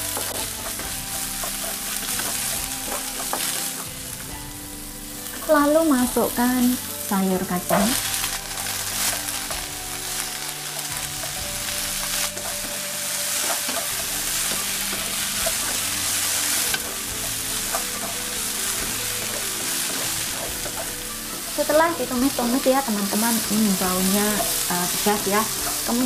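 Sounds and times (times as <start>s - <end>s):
beans sizzling in hot oil: 0.0s - 26.0s
wooden spatula scraping pan: 0.0s - 26.0s.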